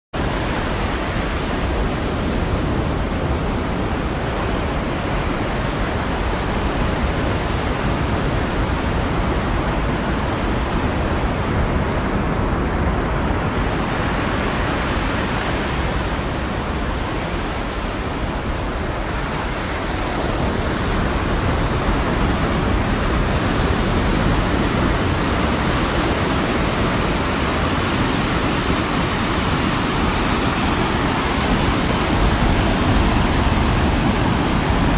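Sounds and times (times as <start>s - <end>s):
waves breaking: 0.2s - 34.9s.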